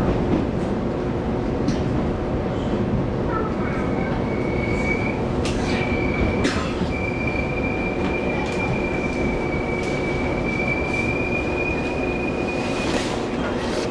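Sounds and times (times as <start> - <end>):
train wheels rumbling: 0.0 - 13.9.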